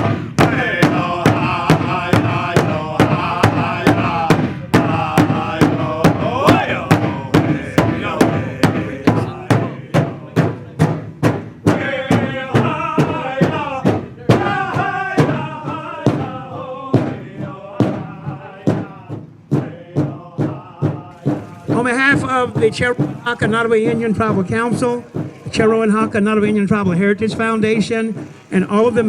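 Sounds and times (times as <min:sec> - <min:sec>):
drum beating steadily: 0:00.0 - 0:29.0
singers chanting high-pitched: 0:00.4 - 0:10.6, 0:11.7 - 0:25.0.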